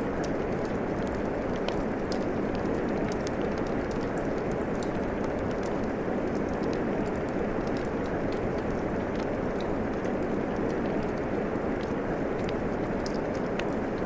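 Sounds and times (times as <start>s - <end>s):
crackling wood fire: 0.0s - 14.0s
steady rain: 0.0s - 14.0s.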